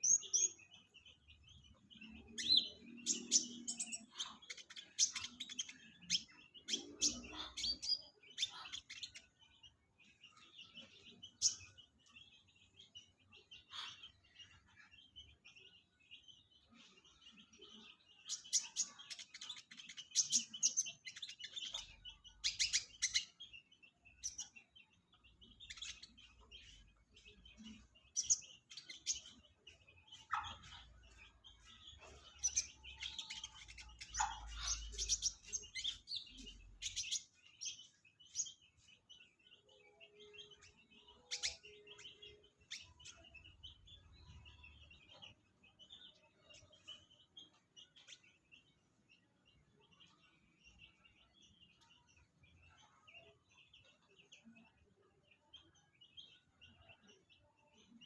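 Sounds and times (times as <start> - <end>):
sunbird twittering chirps and trills: 0.0 - 58.0.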